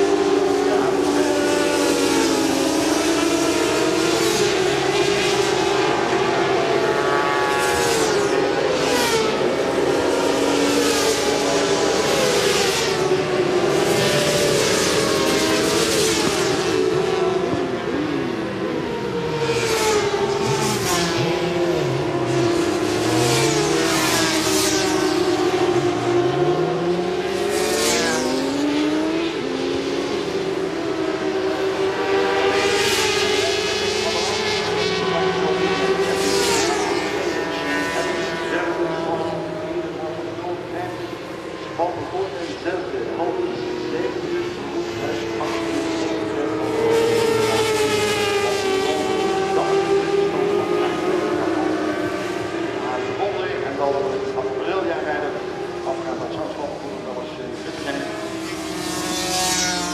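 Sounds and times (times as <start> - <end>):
racing motorcycles at high revs: 0.0 - 59.9.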